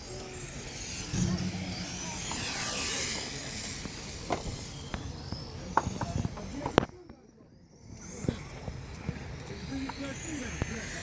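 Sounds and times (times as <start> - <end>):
rc car motors whining: 0.0 - 11.0.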